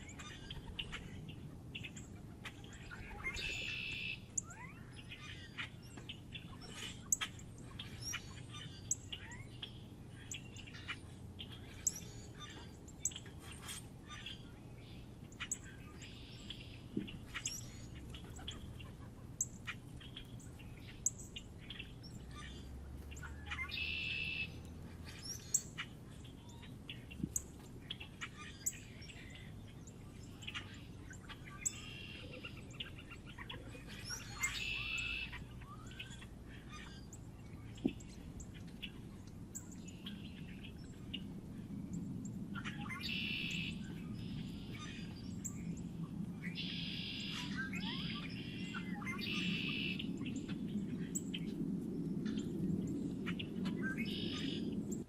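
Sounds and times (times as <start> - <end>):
low background hum: 0.0 - 55.0
small birds chirping: 0.0 - 55.0.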